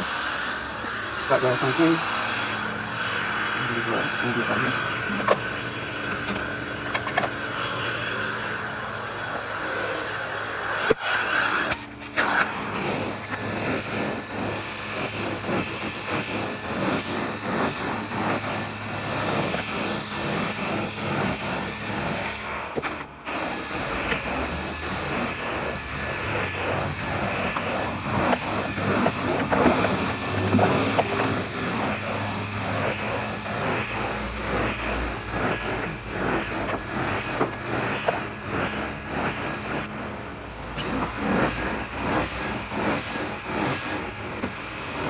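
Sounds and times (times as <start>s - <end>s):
carpet extractor suction hiss: 0.0s - 45.0s.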